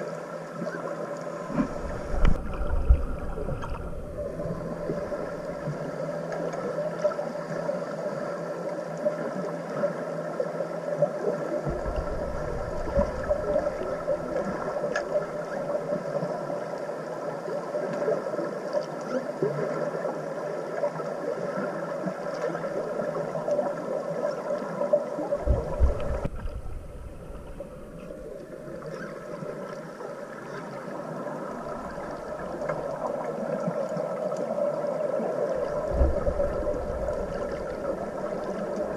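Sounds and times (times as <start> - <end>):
underwater boat motor drone: 0.0 - 38.9.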